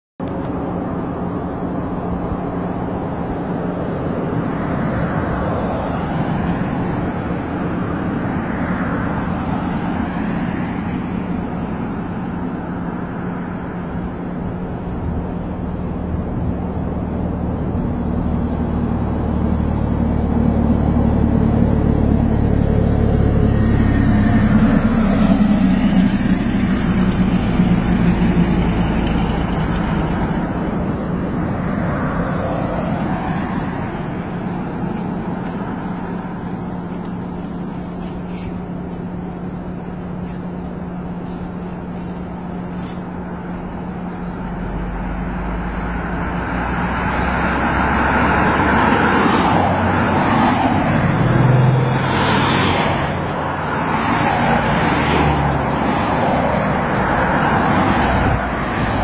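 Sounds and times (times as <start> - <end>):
vehicles passing: 0.2 - 59.0.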